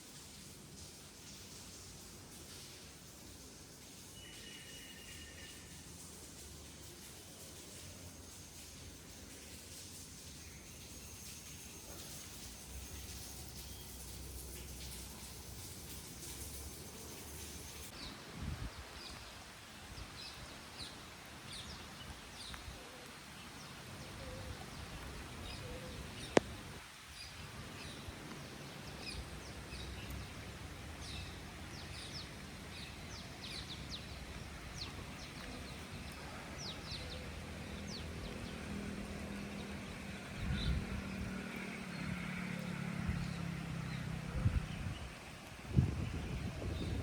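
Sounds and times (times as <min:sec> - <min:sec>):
steady background hiss: 0:00.0 - 0:40.3.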